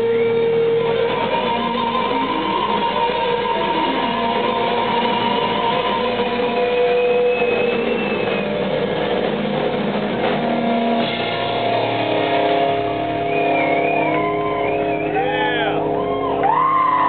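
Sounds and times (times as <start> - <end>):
electric guitars ringing: 0.0 - 17.0.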